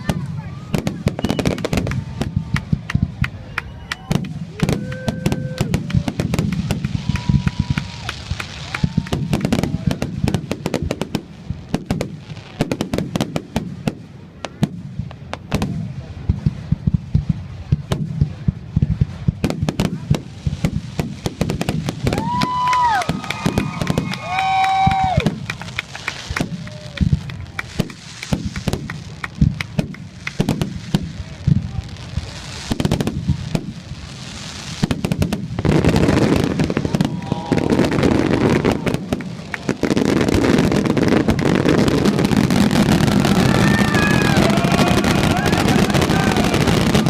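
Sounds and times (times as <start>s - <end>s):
fireworks bangs and crackles: 0.0s - 47.0s
fireworks whistling: 0.0s - 47.0s.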